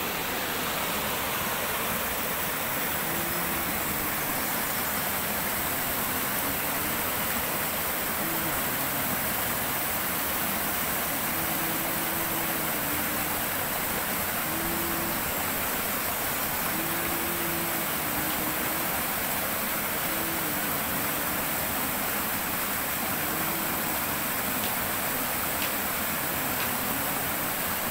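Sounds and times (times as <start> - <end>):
stream rushing over rocks: 0.0 - 27.9.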